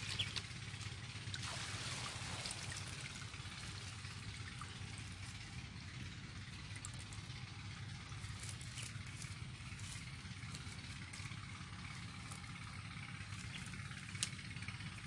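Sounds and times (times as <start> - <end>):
drips and splashes: 0.0 - 15.0
low steady rumble: 0.0 - 15.0.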